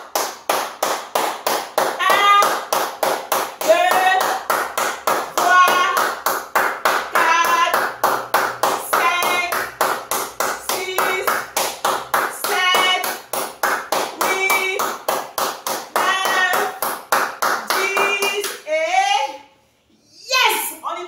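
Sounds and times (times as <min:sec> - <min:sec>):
person clapping hands: 0:00.0 - 0:18.6.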